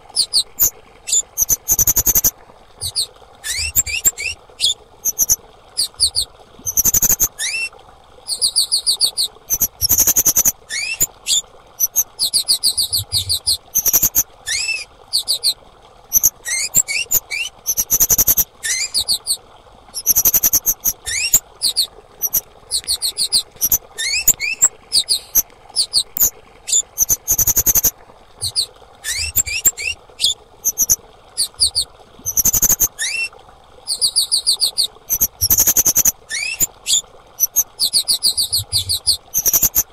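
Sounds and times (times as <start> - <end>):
songbird chip notes and whistles: 0.2 - 7.7, 8.3 - 19.4, 20.0 - 33.3, 33.9 - 39.9.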